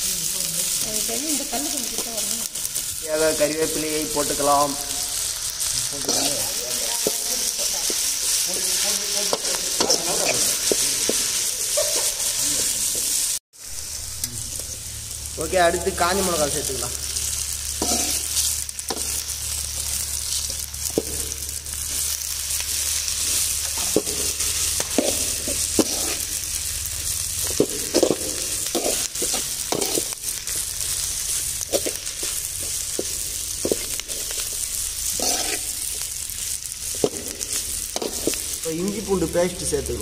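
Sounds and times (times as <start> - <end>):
onions sizzling in hot oil: 0.0 - 40.0.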